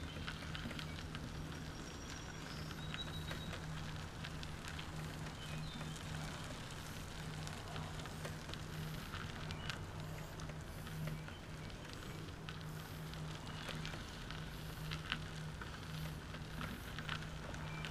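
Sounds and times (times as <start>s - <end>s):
trike engine hum: 0.0s - 17.9s
tyres crackling on path: 0.0s - 17.9s.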